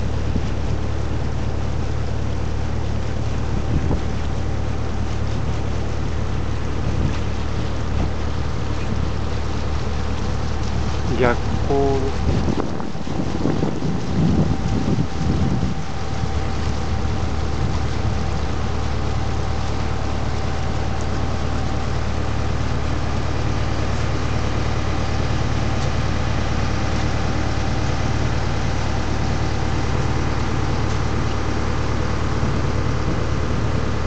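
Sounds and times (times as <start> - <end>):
boat engine droning: 0.0 - 34.0
wind and water rushing: 0.0 - 34.0.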